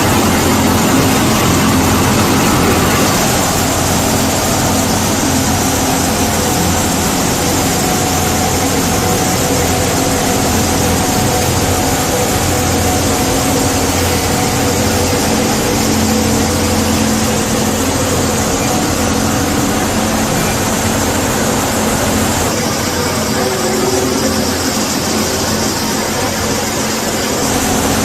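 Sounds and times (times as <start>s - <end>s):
sawmill machinery drone: 0.0s - 28.0s.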